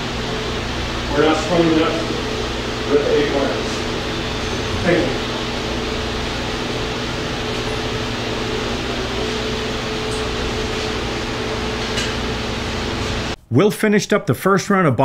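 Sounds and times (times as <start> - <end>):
fan air rushing: 0.0 - 13.4
low fan hum: 0.0 - 13.4.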